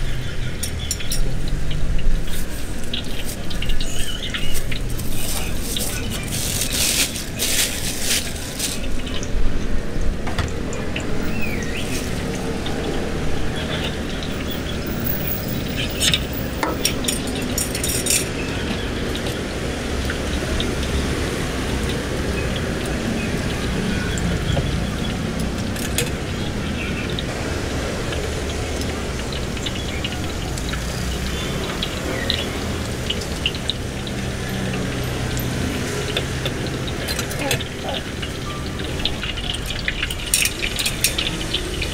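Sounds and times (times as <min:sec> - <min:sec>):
food deep-frying in oil: 0:00.0 - 0:41.9.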